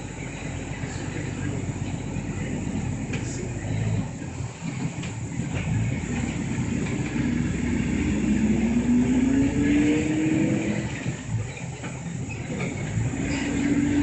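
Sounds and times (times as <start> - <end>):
bus engine rumble: 0.0 - 14.0
drivetrain whine rising: 0.0 - 14.0.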